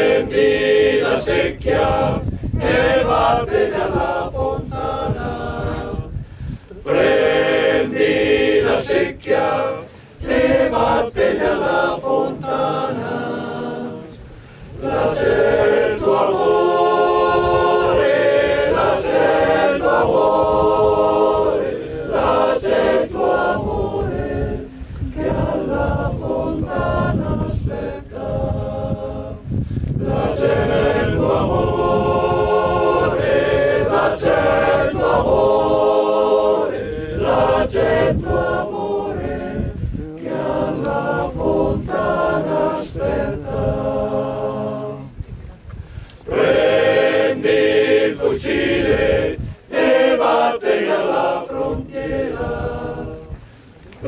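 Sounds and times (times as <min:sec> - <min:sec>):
choir singing a cappella: 0:00.0 - 0:45.3, 0:46.2 - 0:53.6.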